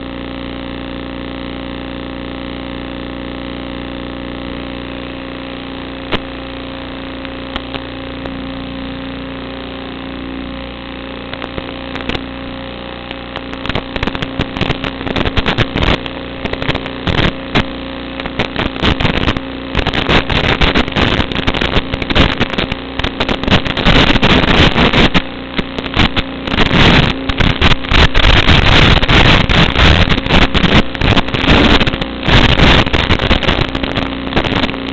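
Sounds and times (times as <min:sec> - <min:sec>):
drone motors humming: 0:00.0 - 0:34.9.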